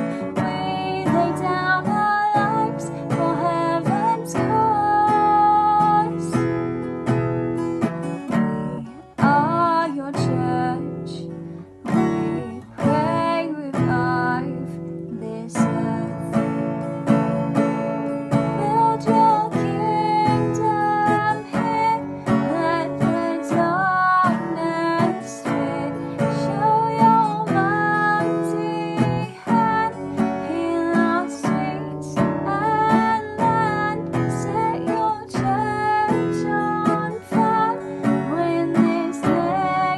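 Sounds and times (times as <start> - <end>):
person singing: 0.0 - 6.4, 8.6 - 11.2, 12.1 - 16.4, 18.5 - 39.9
acoustic guitar strumming: 0.0 - 39.9.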